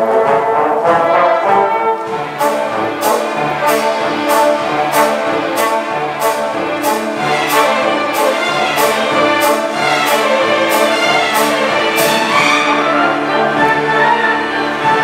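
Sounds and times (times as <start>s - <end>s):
orchestra playing sustained chords: 1.3s - 15.0s.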